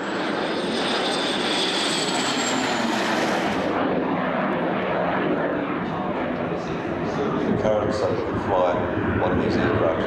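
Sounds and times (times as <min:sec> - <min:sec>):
jet aircraft fly-past: 0:00.0 - 0:10.0
shrill jet whine: 0:00.0 - 0:10.0.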